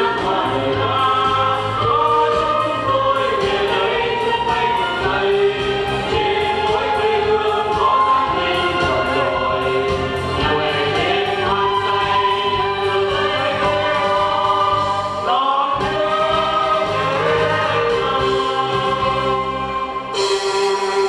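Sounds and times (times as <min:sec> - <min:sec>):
group singing into microphones: 0:00.0 - 0:21.0
instrumental accompaniment: 0:00.0 - 0:21.0.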